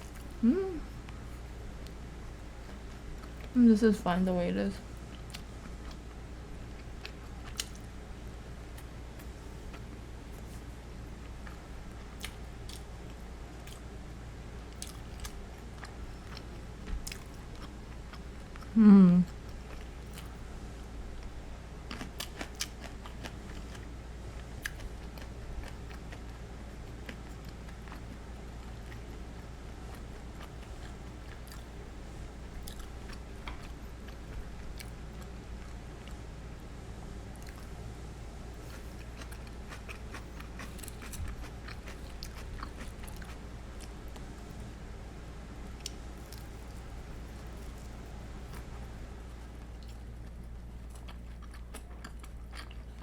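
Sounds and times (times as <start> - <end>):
low steady hum: 0.0 - 53.0
chewing fried chicken: 4.9 - 44.9, 45.6 - 53.0.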